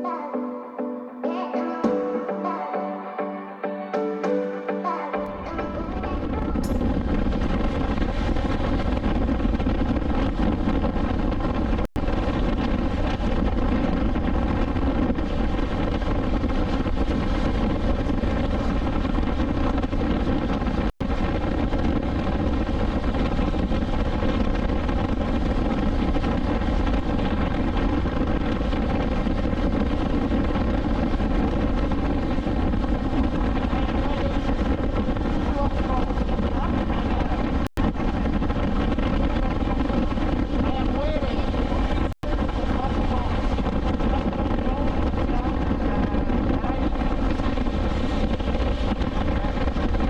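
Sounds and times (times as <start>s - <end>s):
wind noise: 5.3s - 50.0s.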